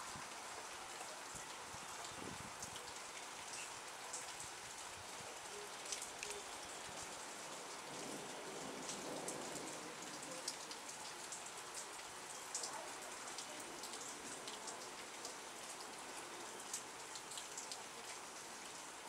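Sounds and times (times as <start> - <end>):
raindrops ticking close by: 0.0 - 19.0
steady rain falling: 0.0 - 19.0.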